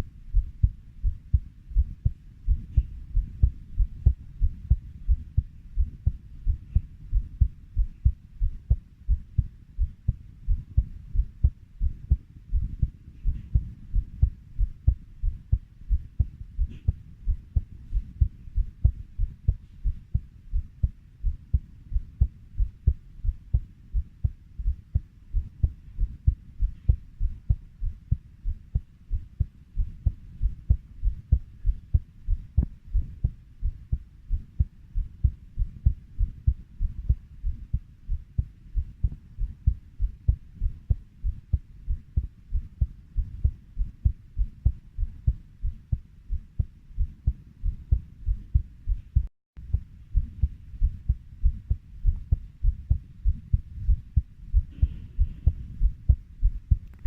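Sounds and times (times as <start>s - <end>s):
human heartbeat: 0.0s - 57.0s.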